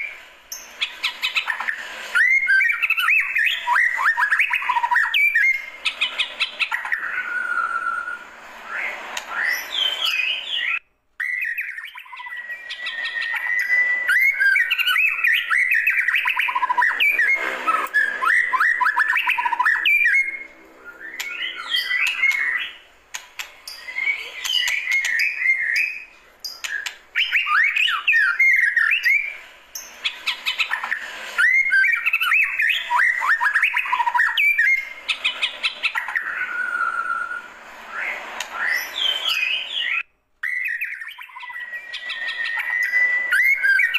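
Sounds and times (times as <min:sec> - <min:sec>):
bird singing whistled phrases: 0:00.0 - 0:22.8, 0:23.7 - 0:29.4, 0:30.0 - 0:43.9.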